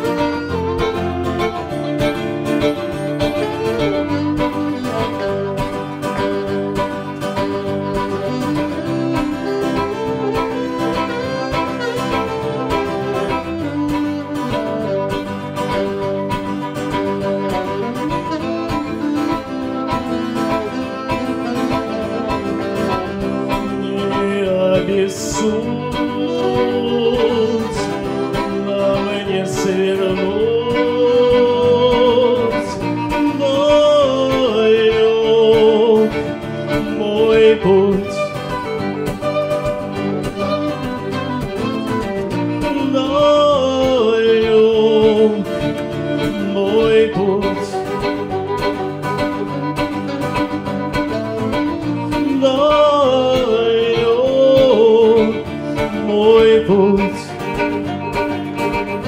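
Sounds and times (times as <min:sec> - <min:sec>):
saxophone melody: 0:00.0 - 0:59.0
strummed acoustic guitar: 0:00.0 - 0:59.0
violin melody: 0:00.0 - 0:59.0.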